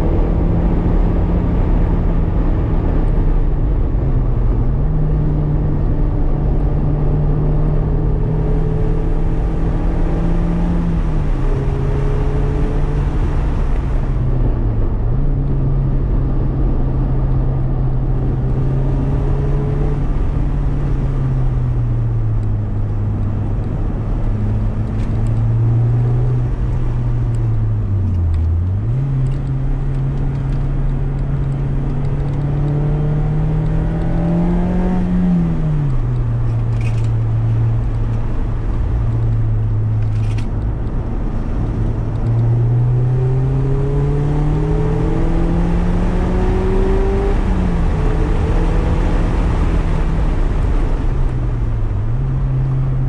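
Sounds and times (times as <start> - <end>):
car engine under load: 0.0 - 53.0
road noise: 0.0 - 53.0.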